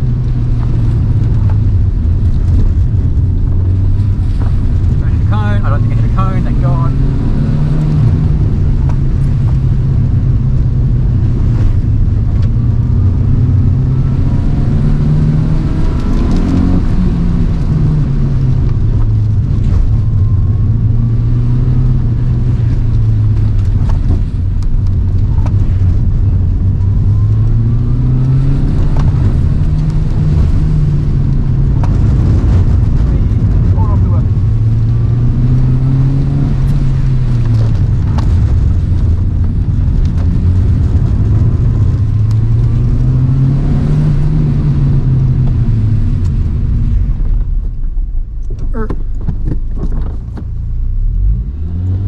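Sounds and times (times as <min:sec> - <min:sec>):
car engine revving: 0:00.0 - 0:52.0
rain noise: 0:00.0 - 0:52.0
road noise: 0:00.0 - 0:52.0.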